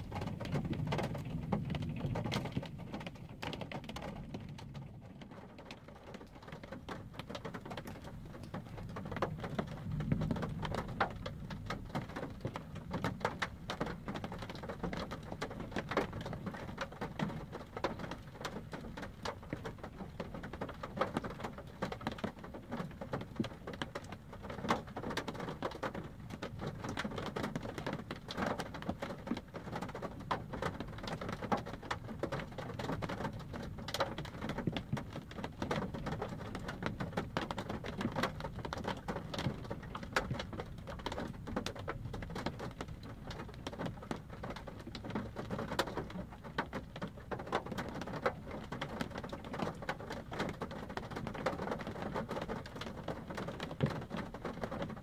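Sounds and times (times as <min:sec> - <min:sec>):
rain pattering on car roof: 0:00.0 - 0:55.0.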